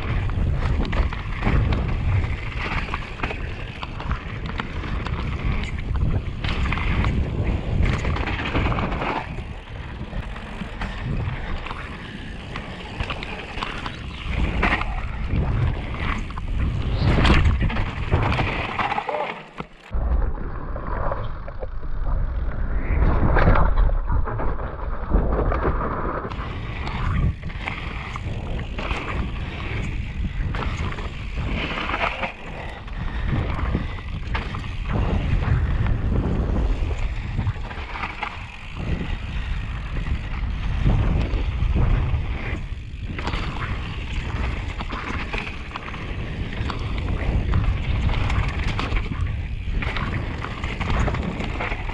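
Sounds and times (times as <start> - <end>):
wind rushing over microphone: 0.0 - 19.0, 19.9 - 51.9
bike rattling and knocking: 0.0 - 20.0, 26.3 - 51.9
tyres on loose dirt: 0.0 - 20.0, 26.2 - 51.9.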